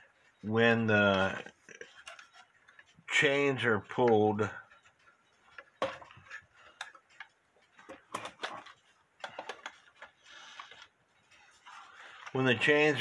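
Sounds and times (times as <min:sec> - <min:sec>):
soft rustle: 0:00.0 - 0:13.0.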